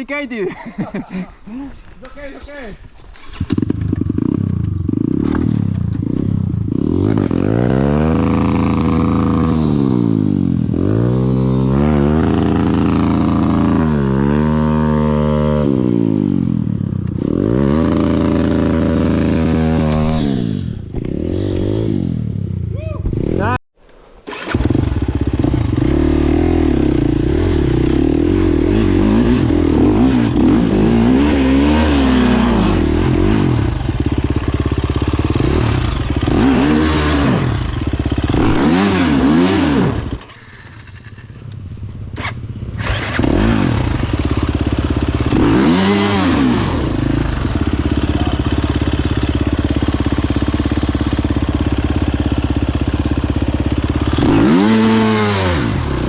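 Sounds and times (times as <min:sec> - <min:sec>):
dirt bike engine revving: 0:03.2 - 0:23.6, 0:24.3 - 0:56.0.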